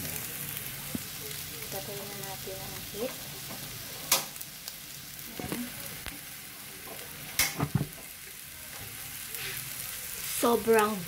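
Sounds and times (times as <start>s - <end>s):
eggs sizzling in a metal pan: 0.0s - 11.0s.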